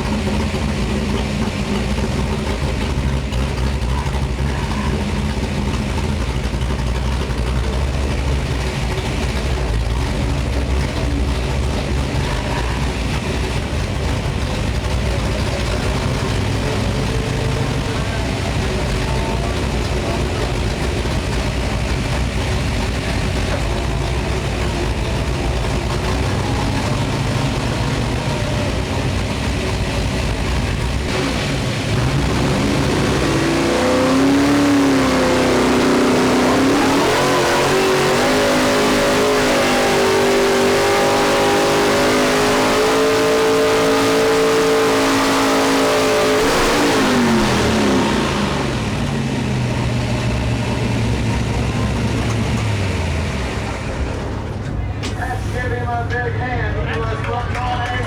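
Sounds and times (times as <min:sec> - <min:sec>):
truck engine rumbling and revving: 0:00.0 - 0:58.0.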